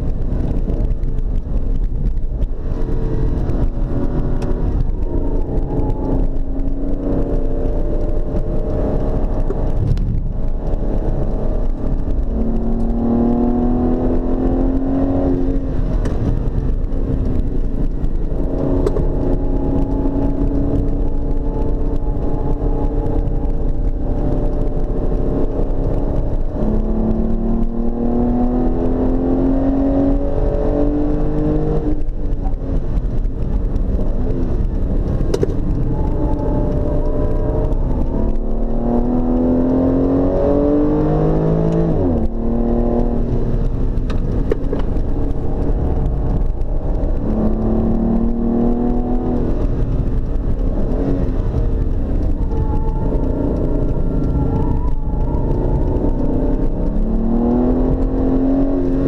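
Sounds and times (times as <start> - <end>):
car engine accelerating: 0.0 - 59.0
tyre and road rumble: 0.0 - 59.0.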